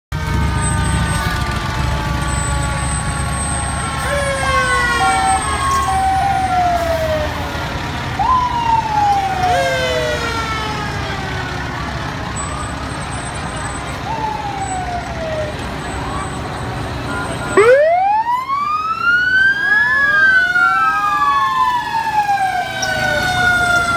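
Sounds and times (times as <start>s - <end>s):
fire engine siren bursts: 0.1s - 23.9s
truck engine rumbling: 0.1s - 23.9s.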